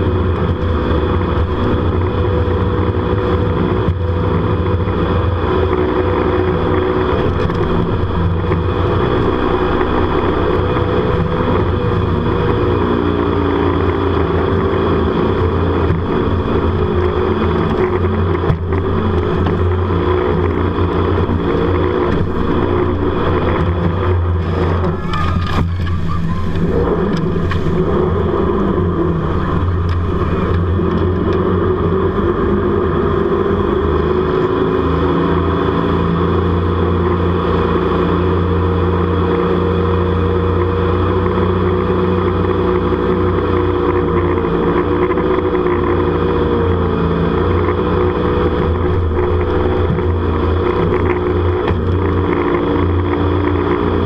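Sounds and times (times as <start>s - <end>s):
boat engine running hard: 0.0s - 54.0s
water rushing around hull: 0.0s - 54.0s.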